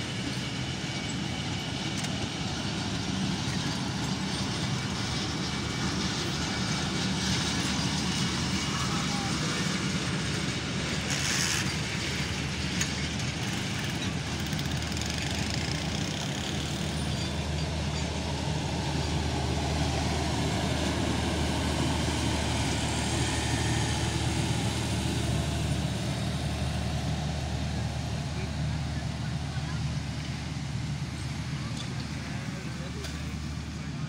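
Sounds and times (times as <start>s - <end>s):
diesel generator drone: 0.0s - 34.0s
train coaches rolling past: 0.0s - 34.0s.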